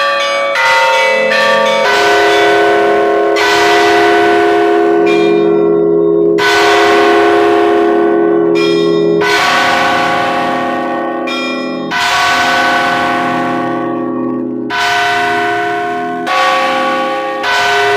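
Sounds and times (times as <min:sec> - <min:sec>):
deep bell humming: 0:00.0 - 0:17.9
small church bells ringing: 0:00.0 - 0:17.9.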